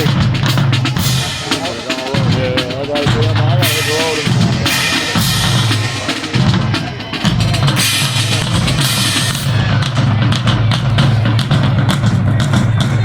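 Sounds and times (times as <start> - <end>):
pounding bass drums: 0.0 - 13.0
rapid snare drum strikes: 0.0 - 13.0.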